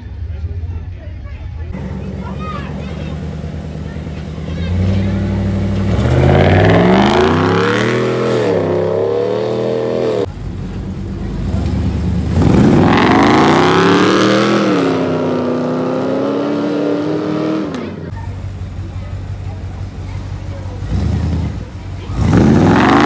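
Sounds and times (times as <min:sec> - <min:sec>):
truck engines accelerating hard: 0:01.7 - 0:23.0.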